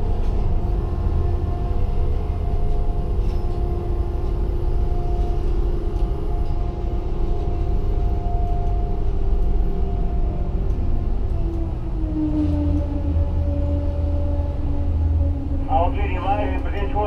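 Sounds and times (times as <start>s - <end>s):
crane machinery low rumble: 0.0s - 17.0s
crane machinery whine: 0.0s - 17.0s.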